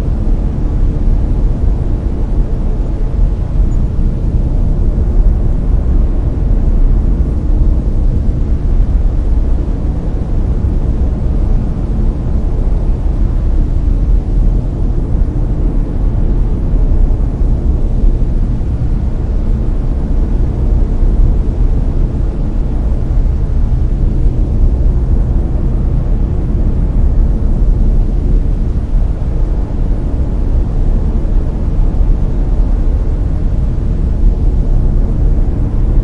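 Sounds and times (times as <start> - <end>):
brown noise: 0.0 - 36.0.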